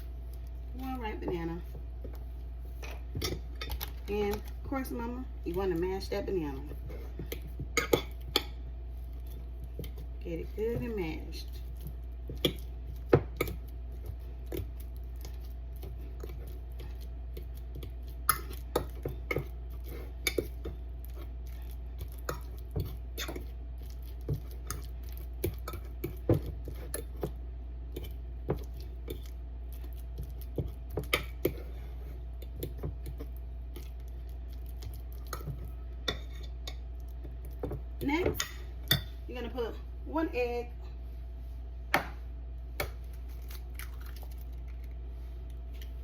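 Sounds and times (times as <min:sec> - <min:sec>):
banana being mashed: 0:00.0 - 0:38.6
steady low hum: 0:00.0 - 0:46.0.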